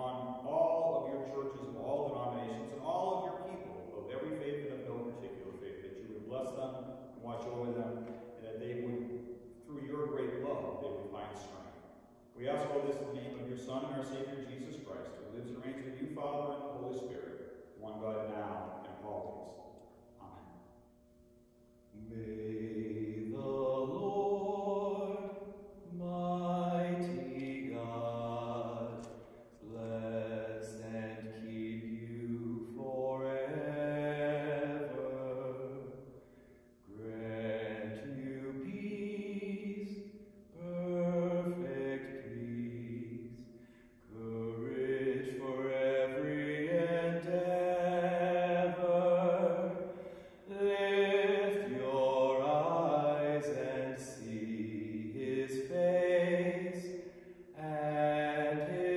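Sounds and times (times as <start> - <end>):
man singing a hymn unaccompanied: 0.0 - 19.7, 21.9 - 36.1, 36.8 - 58.9.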